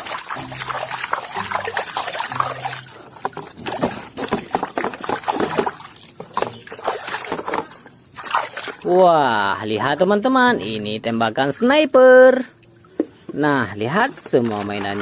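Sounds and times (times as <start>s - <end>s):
water splashing and sloshing: 0.0s - 11.6s, 12.4s - 15.0s.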